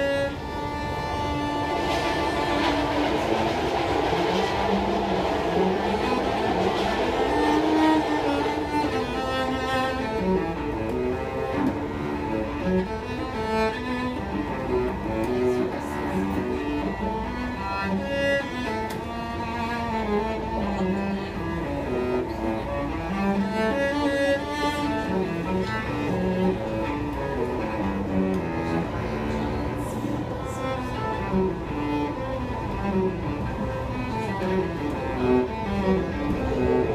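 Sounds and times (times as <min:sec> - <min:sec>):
bowed cello melody: 0:00.0 - 0:36.9
train car rumble: 0:00.0 - 0:36.9.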